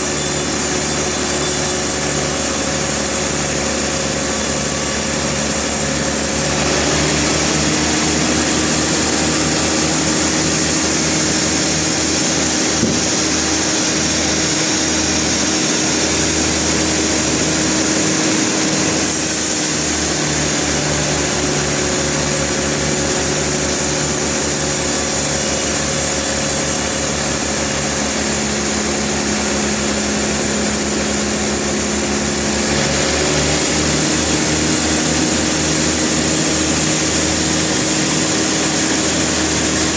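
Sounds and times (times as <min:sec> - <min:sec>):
high machinery hiss: 0:00.0 - 0:39.9.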